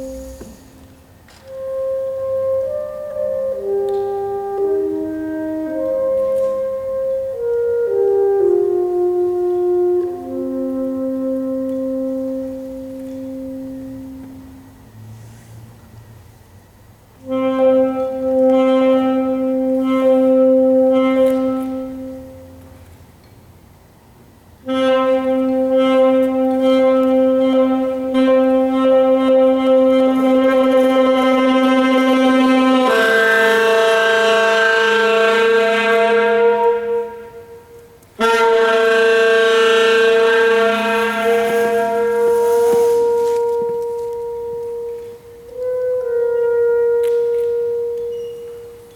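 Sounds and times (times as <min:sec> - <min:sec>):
saxophone long notes: 0:00.0 - 0:15.1, 0:17.1 - 0:22.9, 0:24.6 - 0:48.9.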